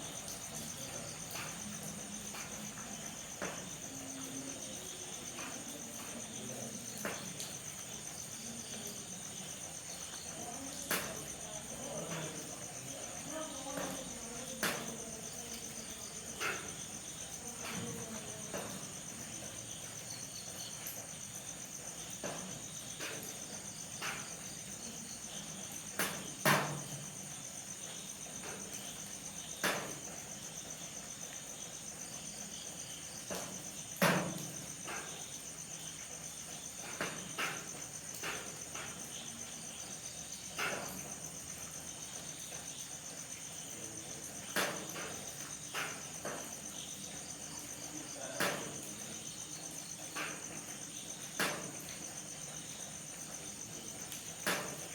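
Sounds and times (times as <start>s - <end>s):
night insects chirring: 0.0s - 54.9s.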